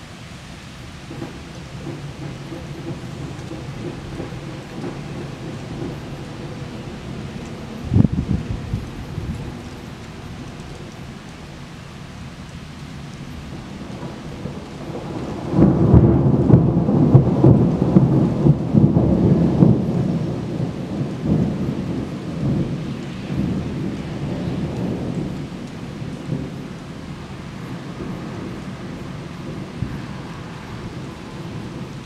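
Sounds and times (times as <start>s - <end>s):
steady rain: 0.0s - 32.0s
thunder rumbling: 0.7s - 32.0s.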